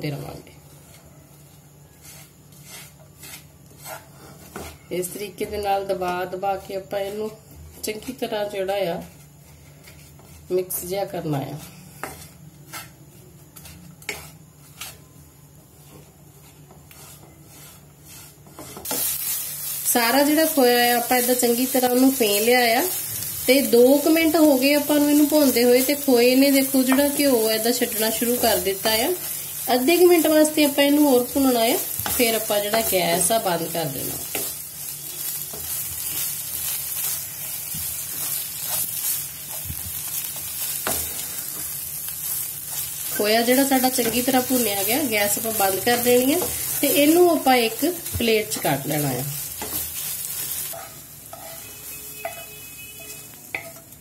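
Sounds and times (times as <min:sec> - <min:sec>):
spatula stirring in frying pan: 0:00.7 - 0:05.7, 0:06.6 - 0:54.0
spatula scraping and tapping pan: 0:00.8 - 0:06.3, 0:09.0 - 0:10.8, 0:11.5 - 0:15.1, 0:15.8 - 0:19.2, 0:20.3 - 0:54.0.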